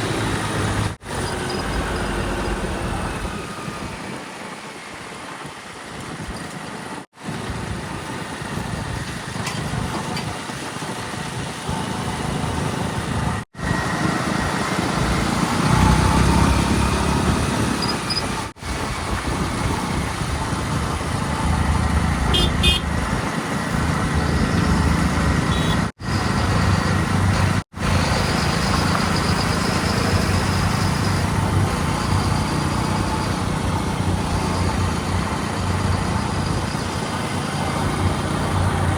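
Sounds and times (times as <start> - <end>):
heavy diesel machinery running: 0.0 - 4.5, 7.1 - 38.9.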